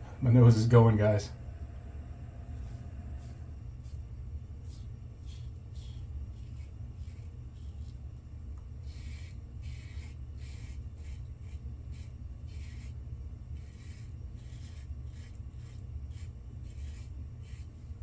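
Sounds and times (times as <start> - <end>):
steady low hum: 0.0 - 18.0
razor scraping stubble: 2.5 - 8.2, 8.8 - 18.0.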